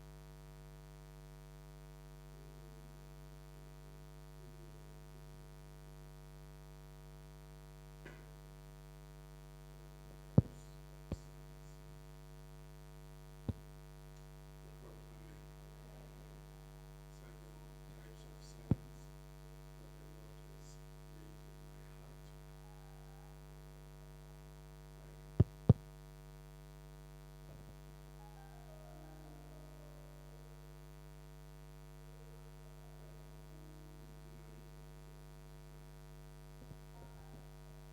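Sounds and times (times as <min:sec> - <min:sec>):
electrical mains hum: 0:00.0 - 0:37.9.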